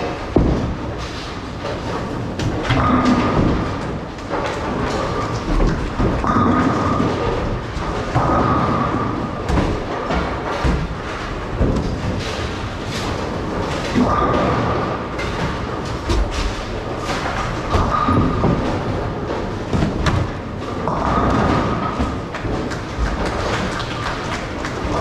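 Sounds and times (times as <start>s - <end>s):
bowling balls and pins knocking: 0.0s - 25.0s.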